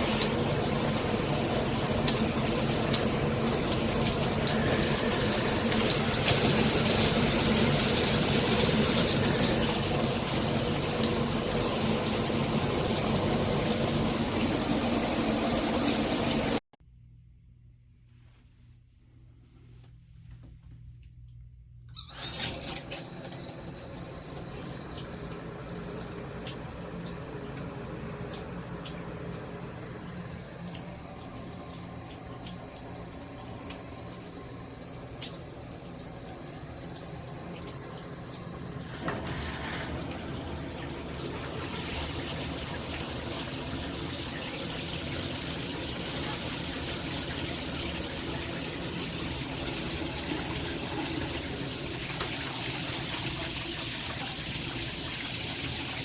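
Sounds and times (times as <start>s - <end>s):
shower water spraying: 0.0s - 16.6s, 22.0s - 56.0s.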